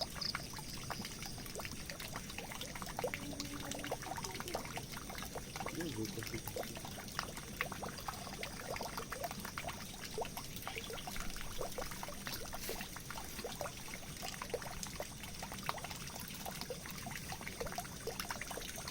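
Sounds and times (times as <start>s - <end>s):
bubbling drops: 0.0s - 15.8s
constant hiss: 0.0s - 18.9s
water pouring and trickling: 0.0s - 18.9s.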